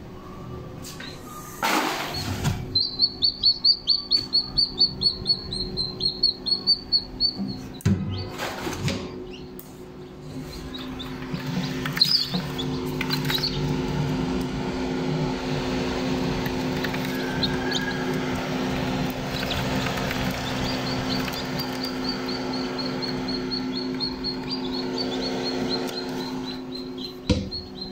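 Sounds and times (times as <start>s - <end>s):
steady low hum: 0.0s - 27.9s
chicks peeping: 2.1s - 14.6s, 15.5s - 27.9s.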